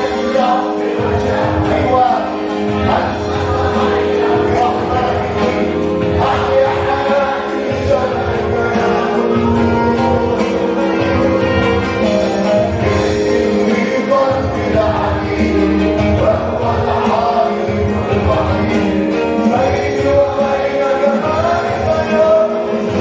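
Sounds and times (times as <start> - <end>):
worship song with band and singing: 0.0 - 23.0.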